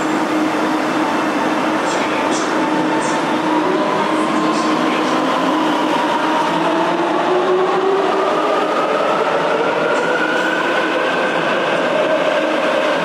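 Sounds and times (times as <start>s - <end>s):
subway train pulling out: 0.0s - 13.0s.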